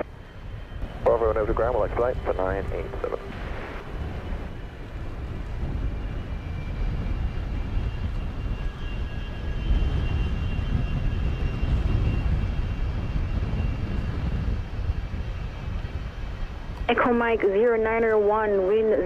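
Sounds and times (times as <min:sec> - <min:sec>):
jet engine high whine: 0:00.0 - 0:19.0
jet engines low rumble: 0:00.0 - 0:19.0.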